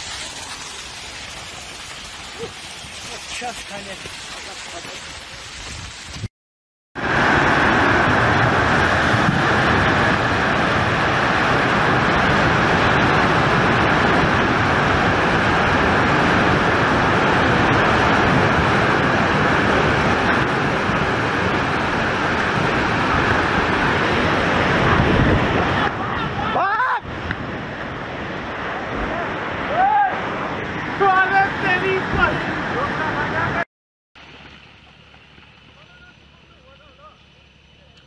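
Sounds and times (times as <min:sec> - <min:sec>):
landslide rushing roar: 0:00.0 - 0:06.3, 0:07.0 - 0:34.5.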